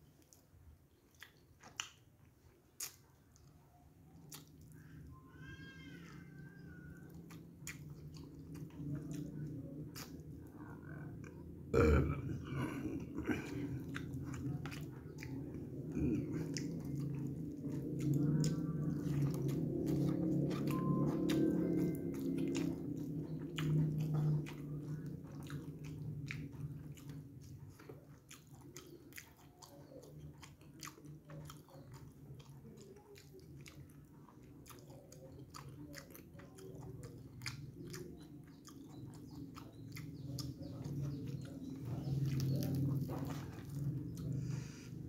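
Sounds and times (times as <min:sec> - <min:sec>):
person chewing food: 0:00.0 - 0:45.0
low steady hum: 0:02.4 - 0:29.0, 0:30.0 - 0:45.0.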